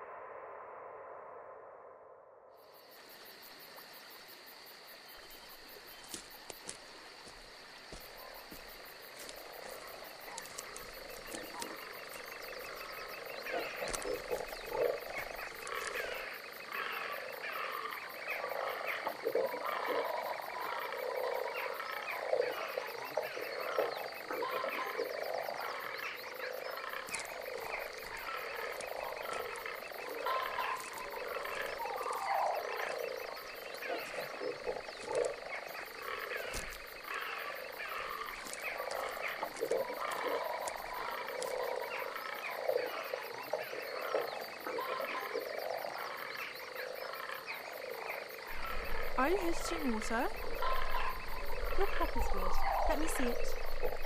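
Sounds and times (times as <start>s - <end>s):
chorus of animal calls: 9.2s - 54.0s.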